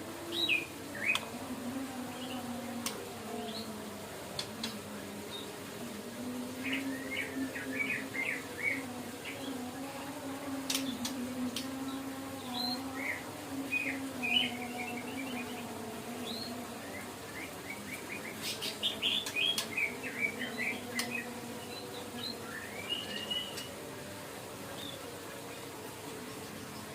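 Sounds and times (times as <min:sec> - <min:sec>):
faint low hum: 0:00.0 - 0:26.9.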